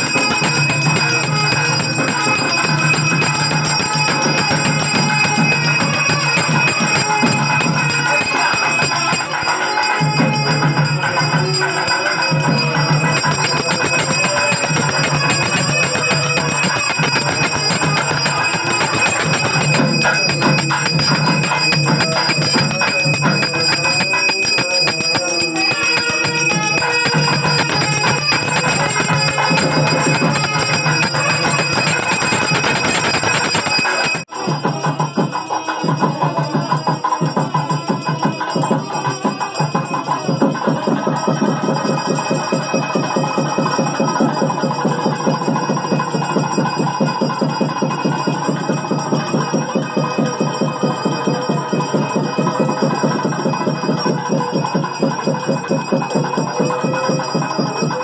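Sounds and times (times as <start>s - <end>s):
bells ringing: 0.0s - 58.0s
devotional music: 0.0s - 58.0s.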